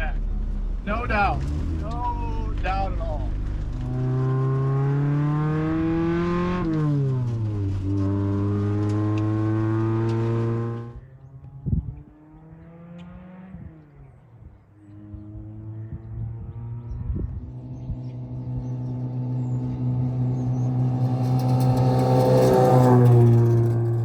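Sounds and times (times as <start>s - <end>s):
car engine accelerating: 0.0s - 24.0s
quiet engine hum: 0.0s - 24.0s.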